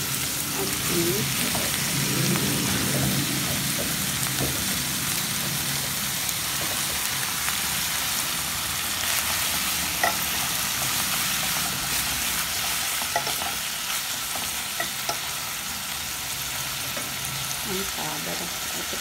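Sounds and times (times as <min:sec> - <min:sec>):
meat and onions sizzling in a pot: 0:00.0 - 0:19.0.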